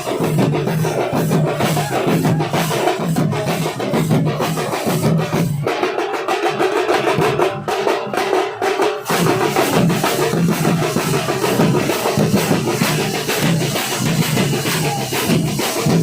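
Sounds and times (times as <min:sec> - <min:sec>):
big deep drums: 0:00.0 - 0:05.7, 0:06.9 - 0:16.0
rapid higher drumming: 0:00.0 - 0:16.0.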